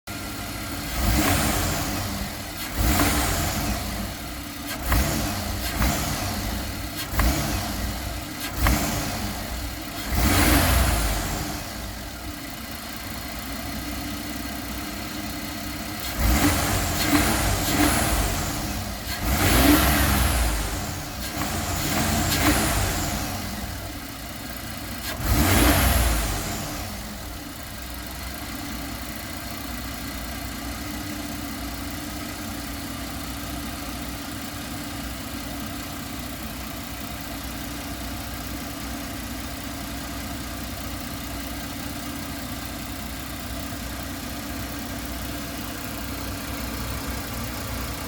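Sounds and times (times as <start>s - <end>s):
engine idling and revving: 0.0s - 48.0s
sucking sound from engine: 0.5s - 13.4s, 15.7s - 48.0s.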